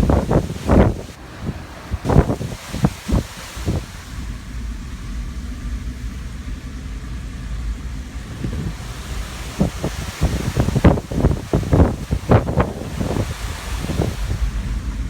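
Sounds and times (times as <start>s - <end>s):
car engine idling: 0.0s - 15.0s
wind buffeting microphone: 0.0s - 15.0s.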